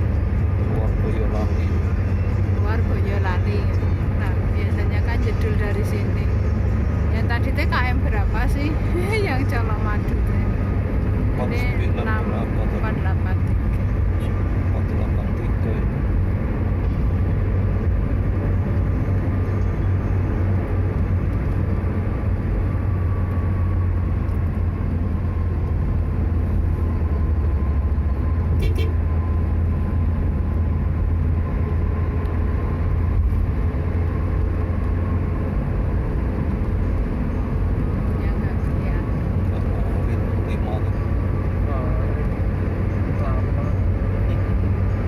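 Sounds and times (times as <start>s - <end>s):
car cabin road rumble: 0.0s - 45.0s.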